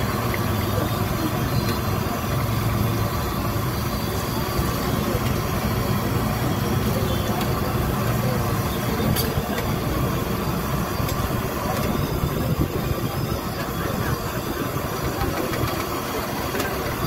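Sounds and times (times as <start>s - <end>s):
gas burner rumble: 0.0s - 17.0s
oil frying hiss: 0.0s - 17.0s.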